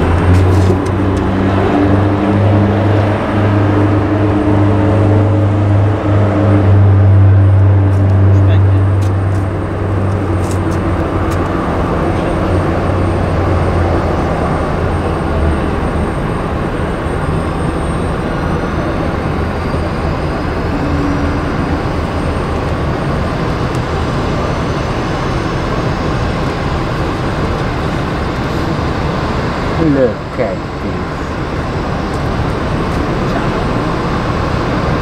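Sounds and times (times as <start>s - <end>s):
faint rising whine: 0.0s - 35.0s
jet engine roar: 0.0s - 35.0s.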